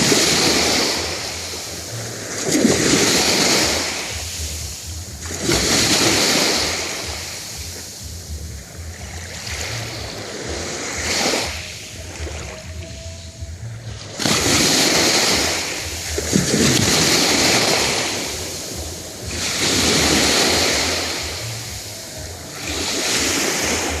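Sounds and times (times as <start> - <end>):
waves breaking on shore: 0.0 - 24.0.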